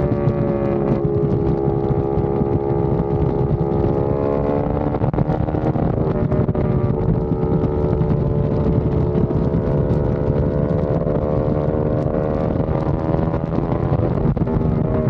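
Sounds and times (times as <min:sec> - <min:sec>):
motorcycle engine deep bassy note: 0:00.0 - 0:15.0.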